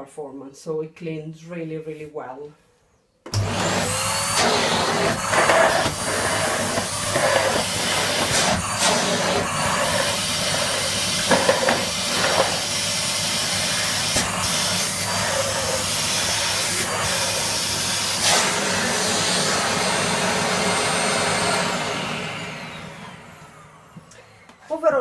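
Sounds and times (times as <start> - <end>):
vacuum cleaner running: 3.3 - 24.7.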